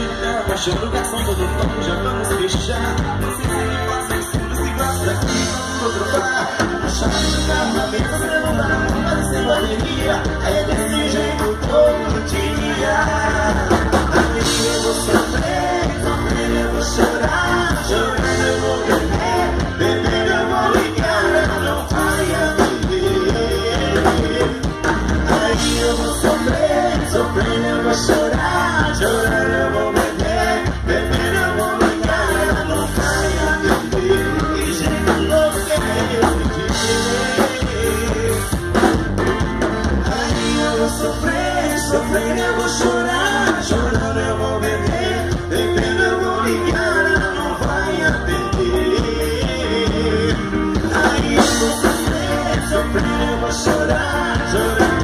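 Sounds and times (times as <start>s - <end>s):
drums: 0.0s - 55.0s
heavy bass line: 0.0s - 55.0s
man singing: 0.0s - 55.0s.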